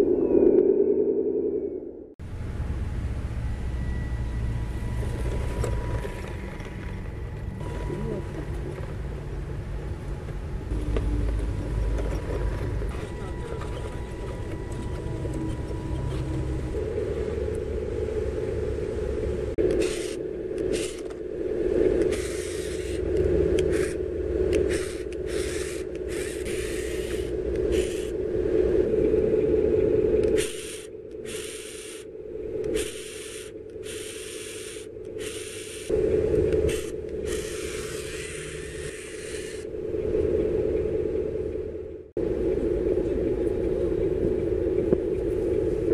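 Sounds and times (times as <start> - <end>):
electric motor and gear hum: 2.2 - 45.9.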